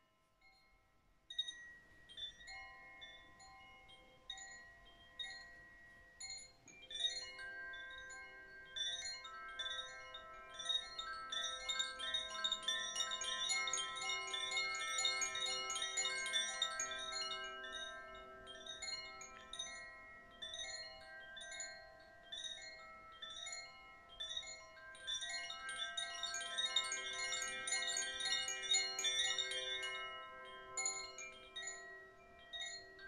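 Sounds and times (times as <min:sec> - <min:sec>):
wind chime tinkling: 0:00.2 - 0:33.0.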